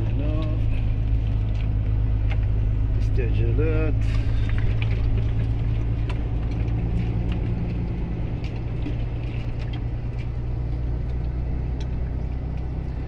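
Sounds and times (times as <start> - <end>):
truck engine hum from cab: 0.0 - 13.0.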